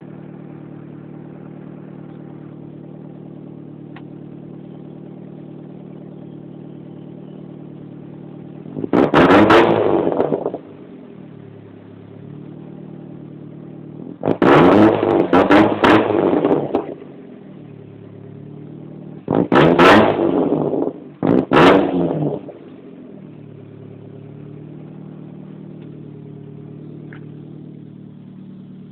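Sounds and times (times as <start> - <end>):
vehicle engine idling and revving: 0.0 - 28.9.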